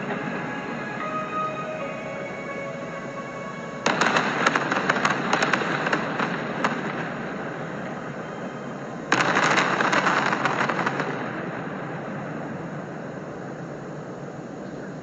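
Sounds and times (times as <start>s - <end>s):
fireworks crackling bursts: 0.0s - 8.2s, 9.0s - 14.2s.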